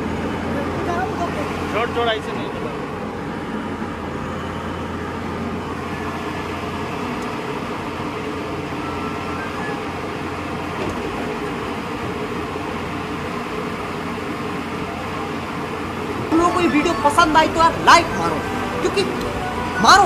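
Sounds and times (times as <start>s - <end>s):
excavator diesel engine and hydraulics: 0.0s - 20.0s.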